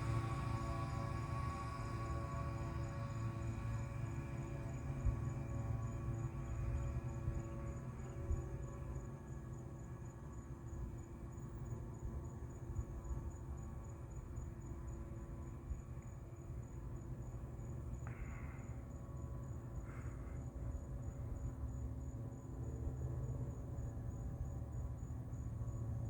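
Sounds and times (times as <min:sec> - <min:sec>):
crickets chirping: 0:00.0 - 0:26.0
low engine hum: 0:00.0 - 0:26.0.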